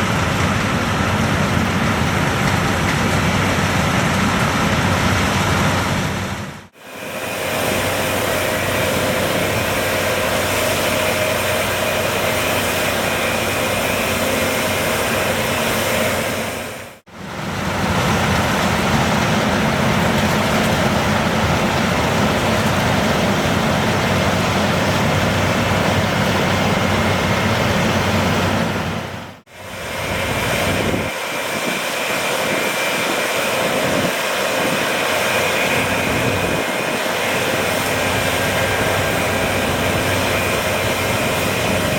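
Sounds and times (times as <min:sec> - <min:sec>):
combine harvester running: 0:00.0 - 0:41.9
steady high whine: 0:00.0 - 0:41.9.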